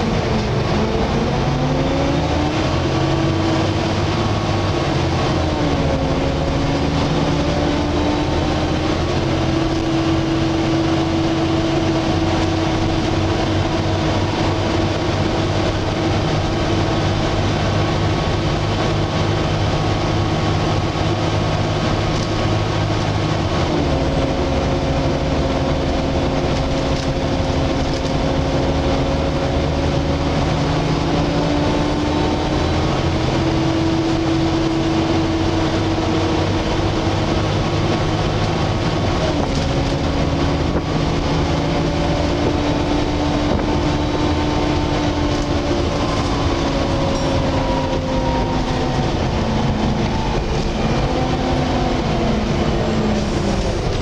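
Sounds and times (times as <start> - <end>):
bus engine running: 0.0 - 54.0
cooling fan whine: 0.0 - 54.0.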